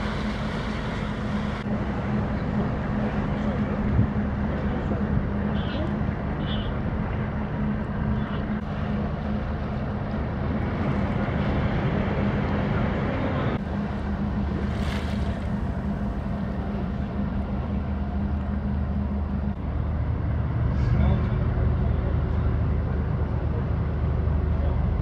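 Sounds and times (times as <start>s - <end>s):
ship engine drone: 0.0s - 25.0s
water washing along hull: 0.0s - 25.0s.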